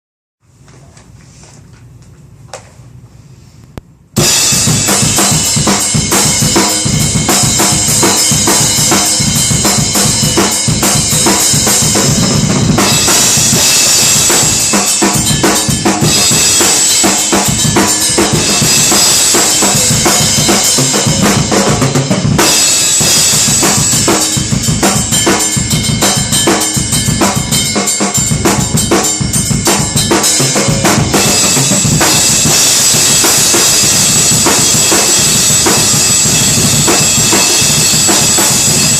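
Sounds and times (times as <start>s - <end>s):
bass drum and snare strokes: 3.8s - 38.9s.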